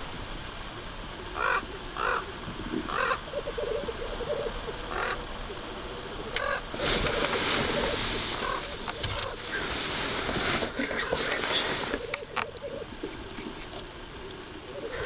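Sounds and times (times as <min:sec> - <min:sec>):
loud hiss: 0:00.0 - 0:15.0
grouse harsh calls: 0:01.3 - 0:15.0
grouse bubbling cooing song: 0:01.4 - 0:15.0.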